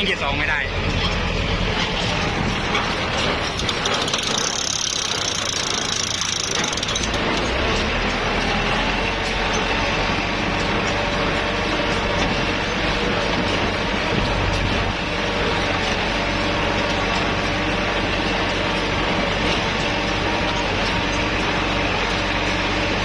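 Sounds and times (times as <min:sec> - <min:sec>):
baler mechanical clatter: 0:00.0 - 0:23.0
tractor diesel engine under load: 0:00.0 - 0:23.0.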